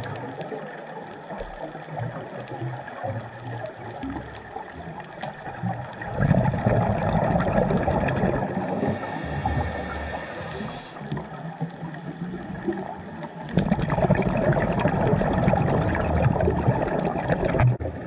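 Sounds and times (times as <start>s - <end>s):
exhaled bubbles rumbling: 0.0s - 18.0s
muffled underwater gurgle: 0.0s - 18.0s.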